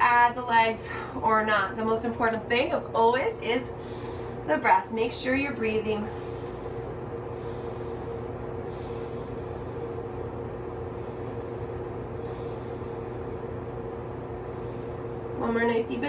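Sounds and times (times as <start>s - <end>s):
mechanical hum with rumble: 0.0s - 16.0s.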